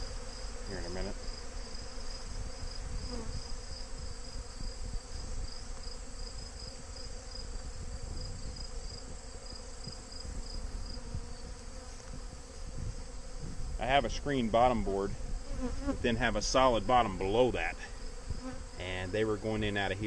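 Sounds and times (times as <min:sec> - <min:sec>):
swarm of bees buzzing: 0:00.0 - 0:20.0.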